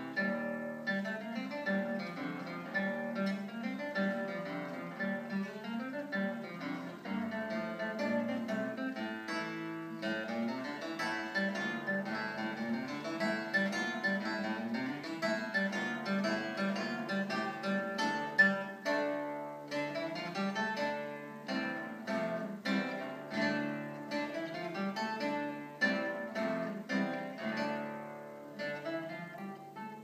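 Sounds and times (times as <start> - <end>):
fingerpicked classical guitar: 0.0 - 30.0.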